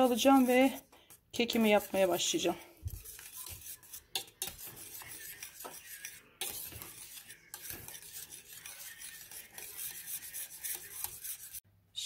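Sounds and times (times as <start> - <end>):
whisk scraping glass bowl: 0.0 - 11.6.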